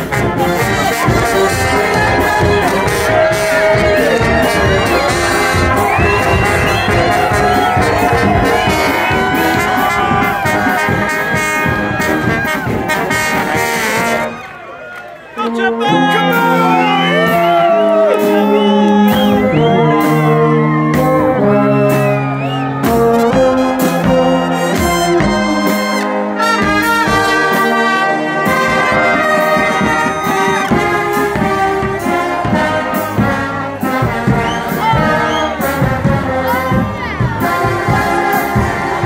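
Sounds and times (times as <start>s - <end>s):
steady drum beat: 0.0s - 14.4s, 16.6s - 39.0s
brass band playing dance-pop: 0.0s - 39.0s.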